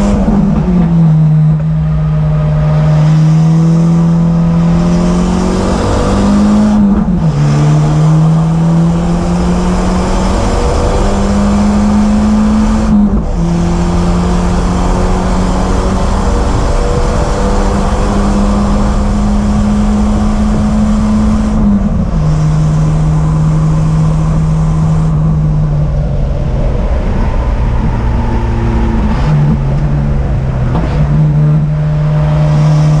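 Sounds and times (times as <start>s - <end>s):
car engine revving and shifting: 0.0s - 33.0s.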